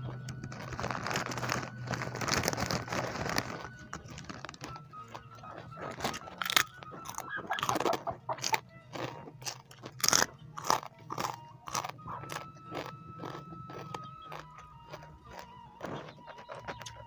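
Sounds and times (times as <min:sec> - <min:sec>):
chewing crunchy fried food: 0:00.0 - 0:17.0.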